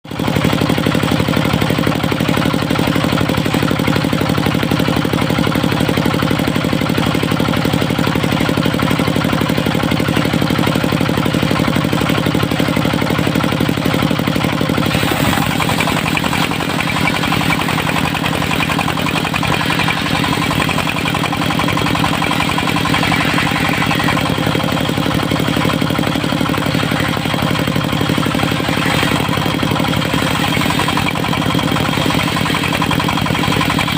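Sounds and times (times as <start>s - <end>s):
sawmill engine running: 0.1s - 33.9s.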